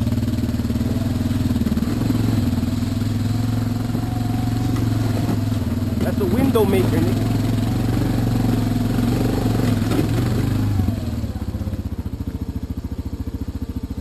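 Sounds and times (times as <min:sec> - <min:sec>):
engine running under throttle: 0:00.0 - 0:14.0.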